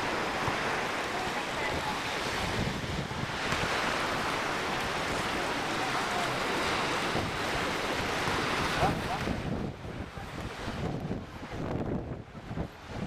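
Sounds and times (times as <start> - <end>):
low surf: 0.0 - 13.0
wind buffeting microphone: 0.0 - 13.0.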